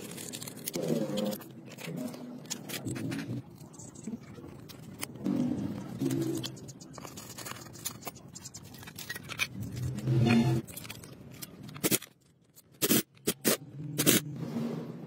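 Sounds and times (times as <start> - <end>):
metal engine parts clicking: 0.0 - 14.2.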